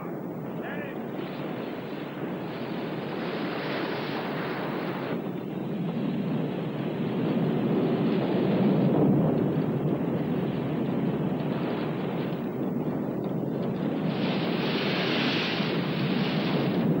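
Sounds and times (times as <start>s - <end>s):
rumble of flames and wind: 0.0s - 17.0s.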